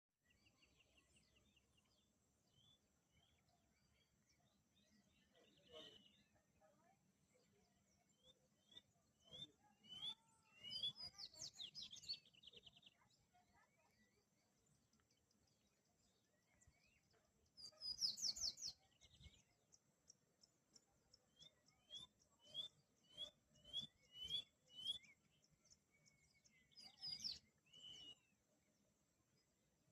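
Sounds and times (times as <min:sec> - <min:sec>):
small bird chirping and twittering: 0:00.2 - 0:29.9.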